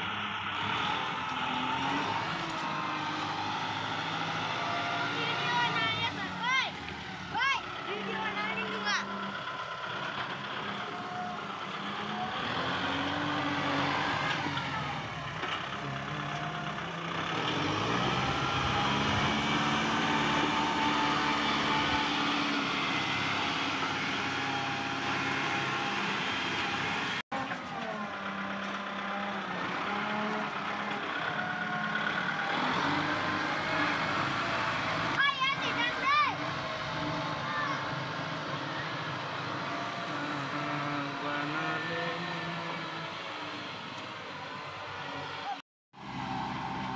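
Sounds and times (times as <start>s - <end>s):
tractor diesel engine running: 0.0s - 41.2s.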